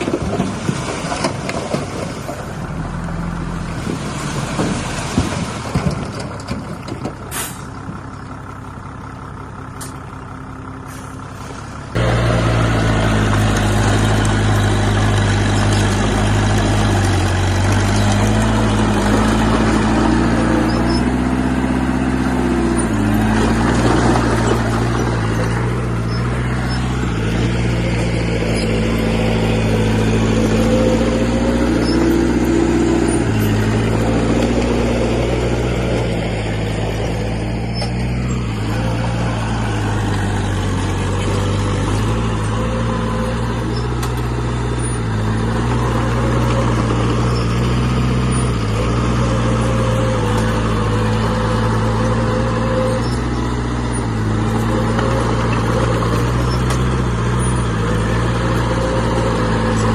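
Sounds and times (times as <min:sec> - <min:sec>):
heavy machine diesel engine running: 0:00.0 - 0:59.9.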